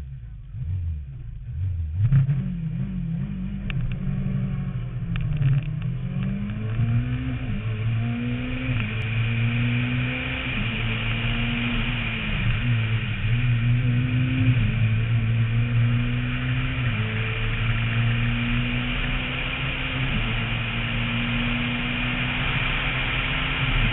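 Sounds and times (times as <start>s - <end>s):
rally car engine accelerating: 0.0s - 23.9s.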